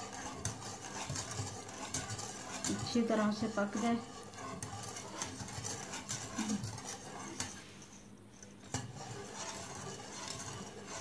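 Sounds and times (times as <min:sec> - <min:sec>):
whisk scraping a metal pot: 0:00.0 - 0:11.0.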